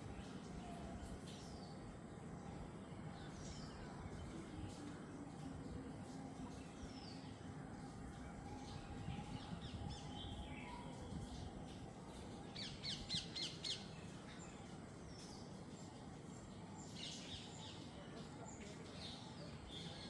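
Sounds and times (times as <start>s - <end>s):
low background hiss: 0.0s - 20.0s.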